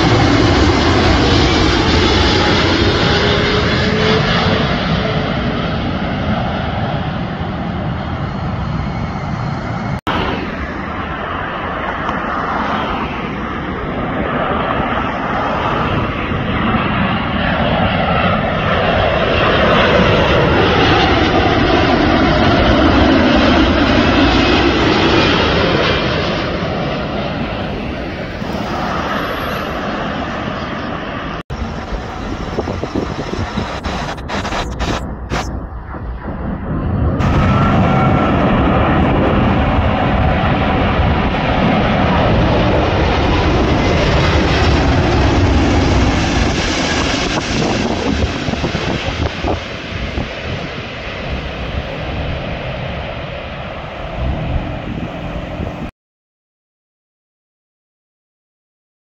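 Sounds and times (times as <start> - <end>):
jet airliner roaring overhead: 0.0 - 55.9.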